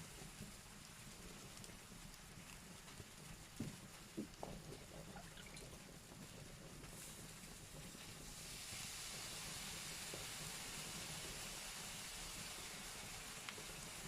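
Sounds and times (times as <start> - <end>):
steady hiss: 0.0 - 14.0
wood fire crackling: 0.0 - 14.0.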